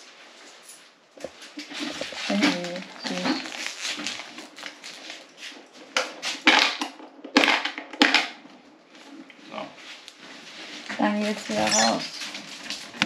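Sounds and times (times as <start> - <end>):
items rustling and crinkling: 0.0 - 13.0.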